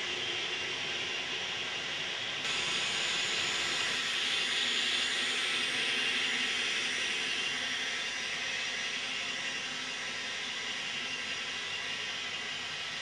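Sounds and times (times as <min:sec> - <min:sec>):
model train whirring: 0:00.0 - 0:13.0.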